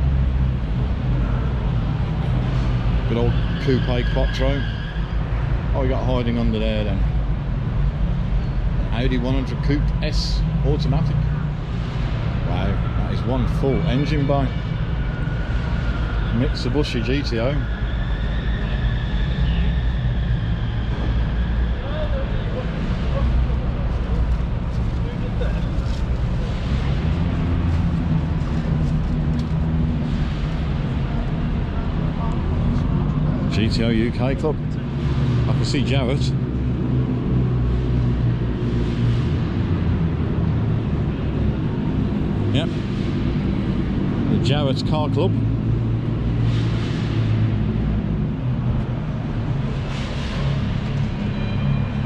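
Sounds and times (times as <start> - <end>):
indoor hall hum and rumble: 0.0 - 52.0.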